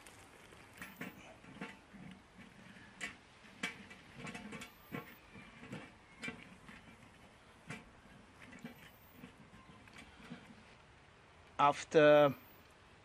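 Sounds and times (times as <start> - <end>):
wooden stick scraping skillet: 0.0 - 10.8.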